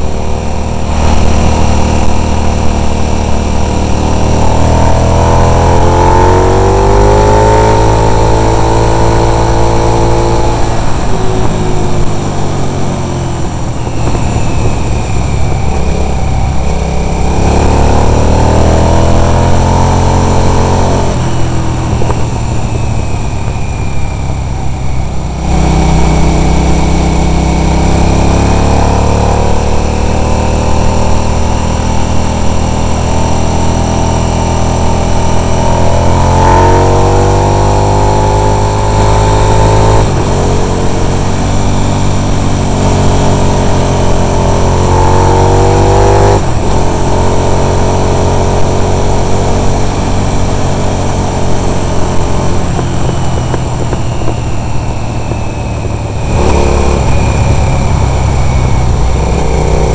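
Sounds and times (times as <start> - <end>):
racing motorcycle engine: 0.0 - 59.9.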